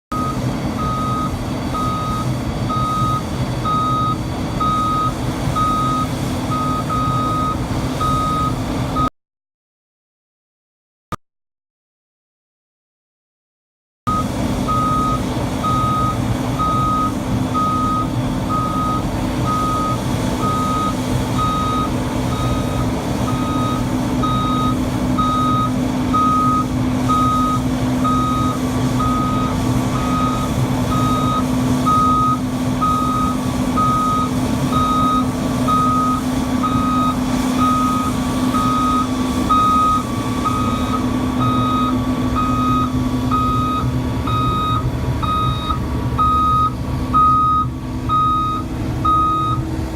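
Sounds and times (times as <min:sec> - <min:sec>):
single-tone motion alarm beeping: 0:00.1 - 0:08.6, 0:14.1 - 0:49.6
excavator engine running: 0:00.1 - 0:09.1, 0:14.1 - 0:49.9.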